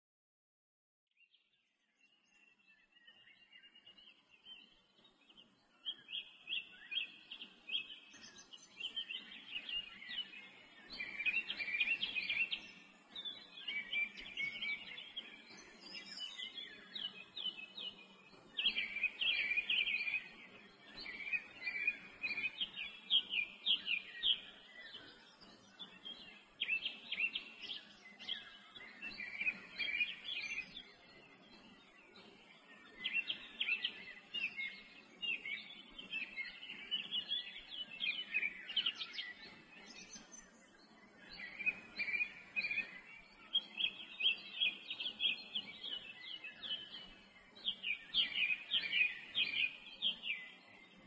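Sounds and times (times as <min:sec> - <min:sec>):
small birds chirping: 0:01.2 - 0:51.0.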